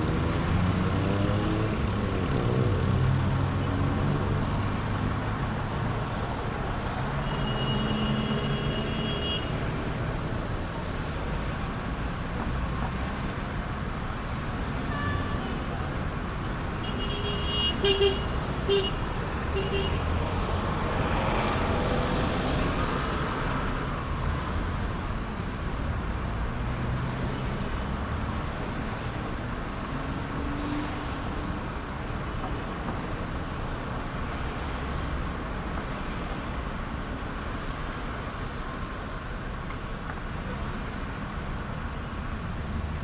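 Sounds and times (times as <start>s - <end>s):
street traffic roar: 0.0s - 43.0s.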